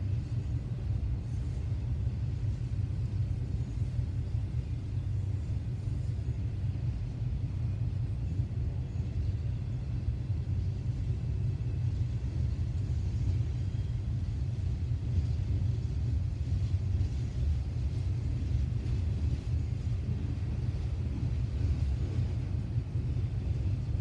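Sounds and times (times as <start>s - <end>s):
distant freight train rumble: 0.0s - 24.0s.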